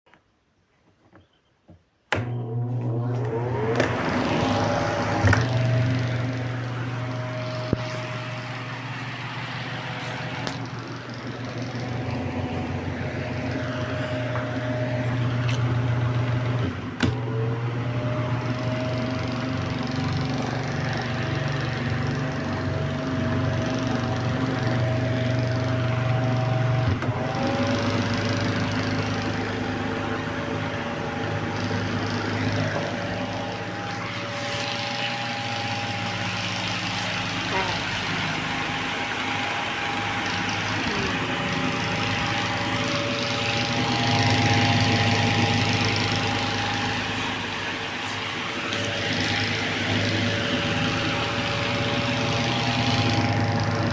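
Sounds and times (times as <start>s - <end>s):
small fan motor hum and whine: 1.1s - 53.9s
fan blades rushing: 2.2s - 53.9s.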